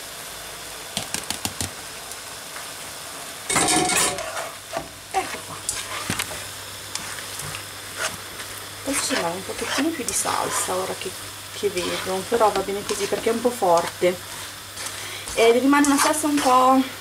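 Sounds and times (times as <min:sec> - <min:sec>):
food sizzling in a frying pan: 0:01.8 - 0:17.0.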